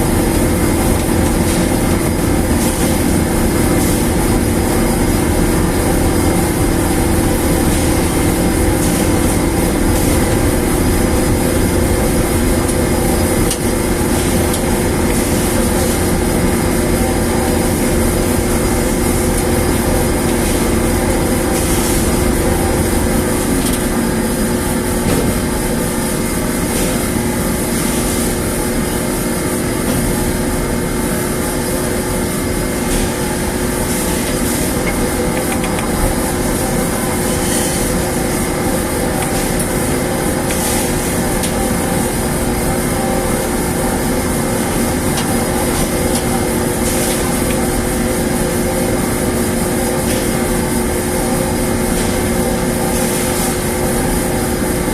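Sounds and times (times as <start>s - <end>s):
dryer machine humming: 0.0s - 54.9s.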